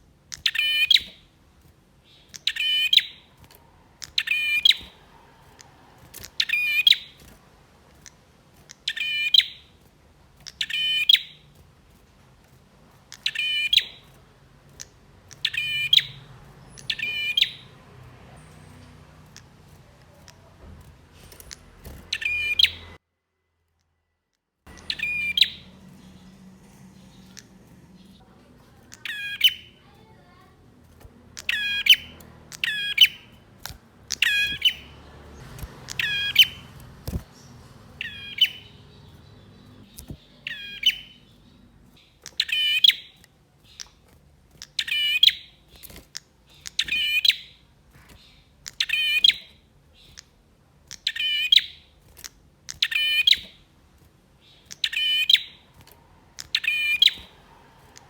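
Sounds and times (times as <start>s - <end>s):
bird chirping: 0.0s - 11.7s, 12.8s - 23.0s, 24.7s - 58.0s.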